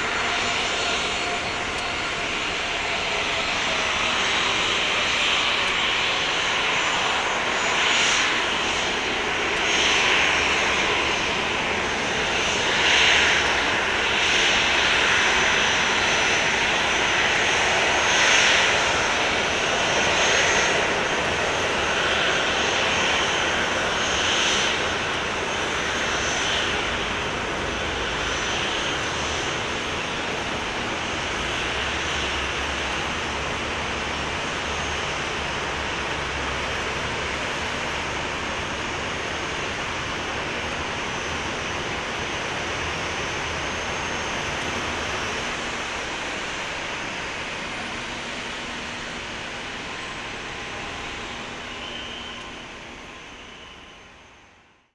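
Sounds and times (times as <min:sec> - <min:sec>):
jet engines taxiing: 0:00.0 - 0:54.9.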